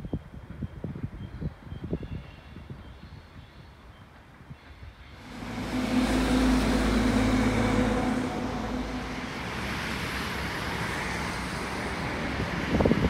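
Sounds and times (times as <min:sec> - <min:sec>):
diesel locomotive engine drone: 0:00.0 - 0:13.0
wind noise: 0:00.0 - 0:13.0.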